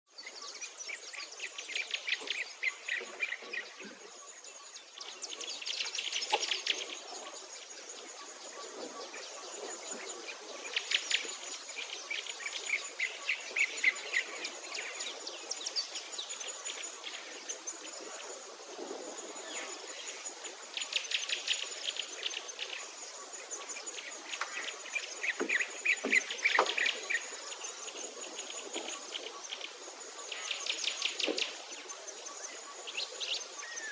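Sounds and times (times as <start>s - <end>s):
songbirds trilling and chirping: 0.1s - 33.9s.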